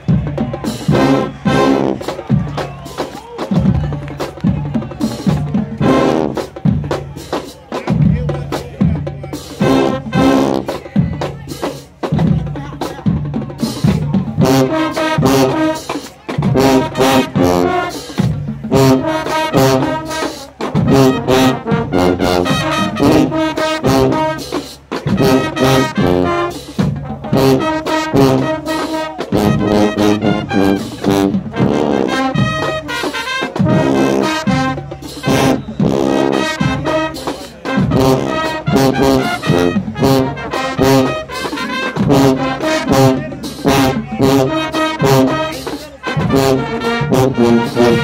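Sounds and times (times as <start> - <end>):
brass band playing punchy chords: 0.0 - 48.0
marching drums: 0.0 - 48.0.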